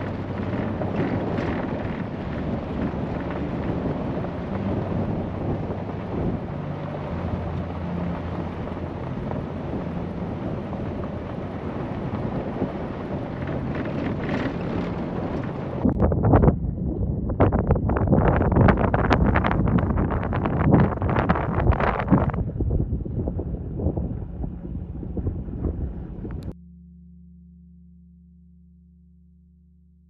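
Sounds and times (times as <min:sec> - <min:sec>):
tyres rumbling on gravel: 0:00.0 - 0:16.5, 0:17.4 - 0:26.5
wind buffeting microphone: 0:00.0 - 0:26.6
vehicle engine hum: 0:00.0 - 0:29.6.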